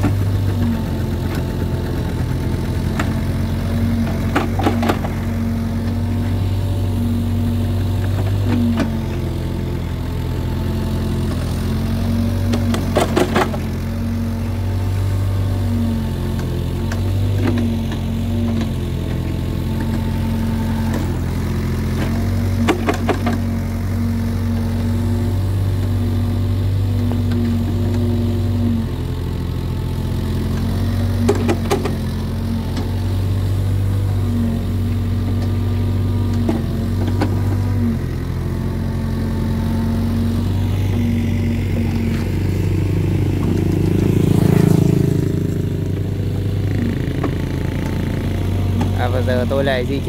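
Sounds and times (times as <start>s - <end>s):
excavator diesel engine: 0.0s - 50.0s.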